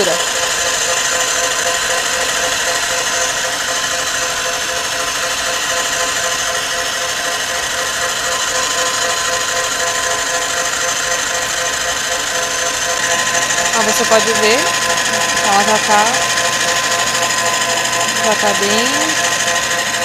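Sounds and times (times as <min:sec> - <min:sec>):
stand mixer motor whine: 0:00.0 - 0:20.0
whisk beating in steel bowl: 0:00.0 - 0:20.0.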